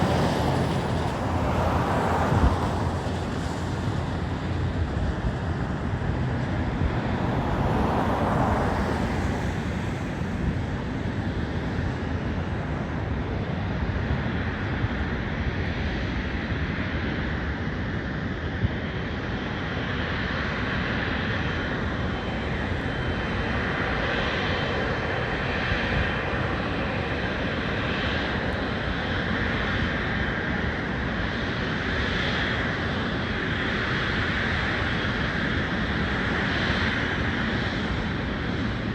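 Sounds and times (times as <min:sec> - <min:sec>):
airliner engine rumble and whine: 0:00.0 - 0:38.9.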